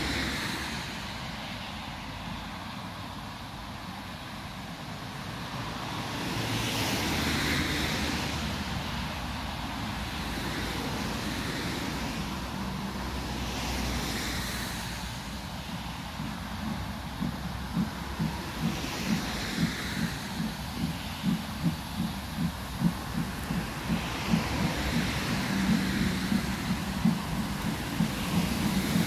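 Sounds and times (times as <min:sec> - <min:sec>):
steam locomotive exhaust rushing: 0:00.0 - 0:29.0.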